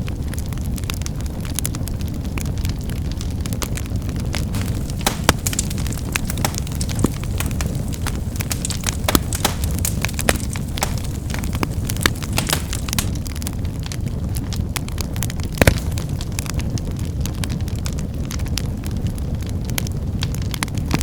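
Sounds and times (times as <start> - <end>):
wood fire crackling and popping: 0.1 - 21.0.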